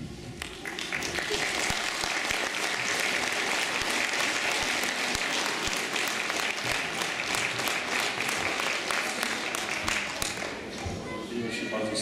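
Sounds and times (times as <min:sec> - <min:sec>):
audience applauding: 0:00.4 - 0:10.7.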